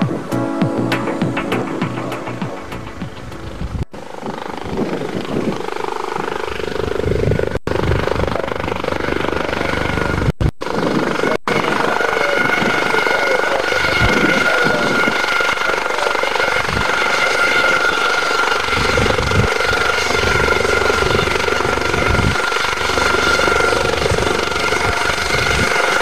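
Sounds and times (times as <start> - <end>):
helicopter whine: 0.0 - 26.0.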